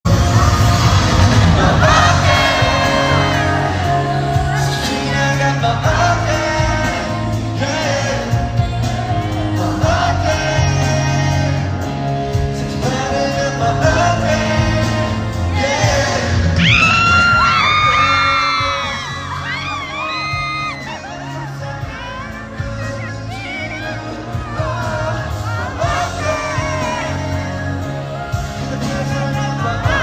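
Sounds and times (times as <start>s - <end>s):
pop hip-hop music over sound system: 0.0s - 30.0s
person singing: 0.1s - 30.0s
steady bass line: 0.1s - 30.0s.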